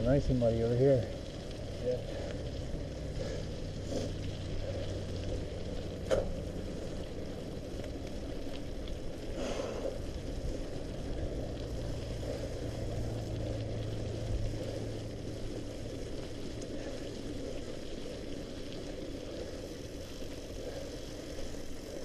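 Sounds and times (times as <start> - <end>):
bike tyres rolling through mud: 0.0 - 22.0.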